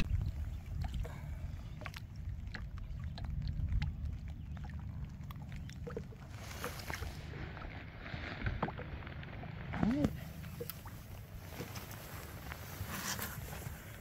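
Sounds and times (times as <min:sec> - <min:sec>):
steady low rumble: 0:00.0 - 0:14.0
water lapping against boat: 0:00.0 - 0:14.0.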